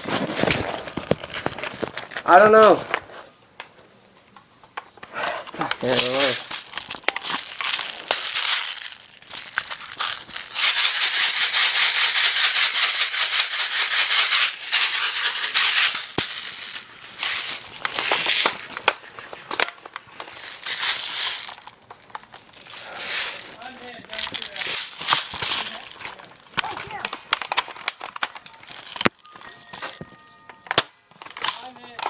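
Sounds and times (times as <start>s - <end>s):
loud rustling and crinkling: 0.0s - 3.8s, 4.8s - 32.0s.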